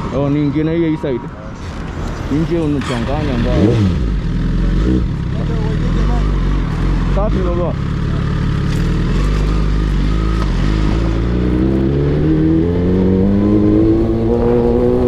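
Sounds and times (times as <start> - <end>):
motorcycle engine accelerating: 2.5 - 15.0.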